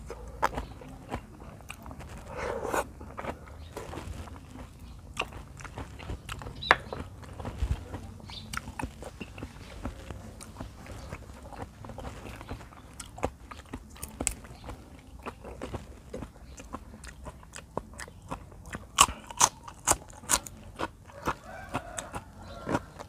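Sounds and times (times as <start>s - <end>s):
wet chewing: 0.0s - 23.0s.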